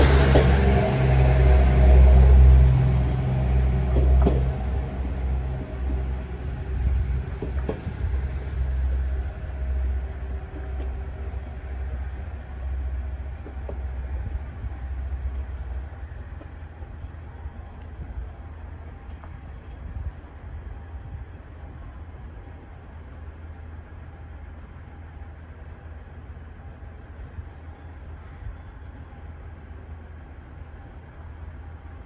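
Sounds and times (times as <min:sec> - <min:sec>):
diesel railcar engine rumbling: 0:00.0 - 0:32.0.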